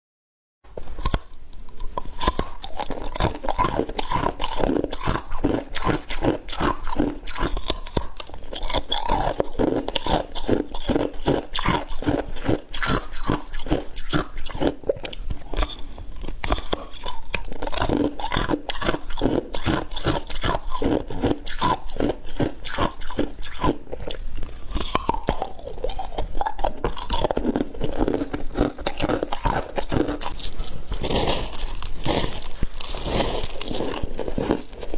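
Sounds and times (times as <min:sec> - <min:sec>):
ice being chewed: 0:00.8 - 0:34.9.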